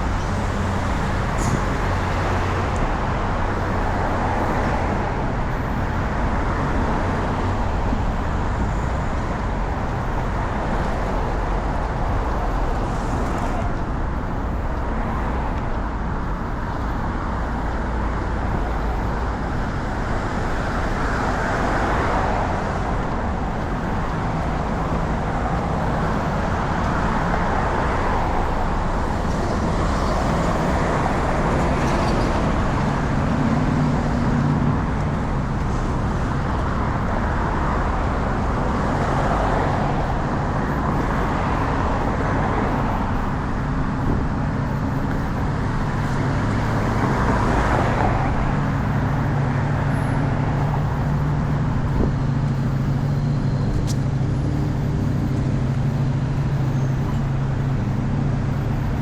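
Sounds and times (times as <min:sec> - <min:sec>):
low engine hum: 0:00.0 - 0:59.0
road traffic passing: 0:00.0 - 0:59.0.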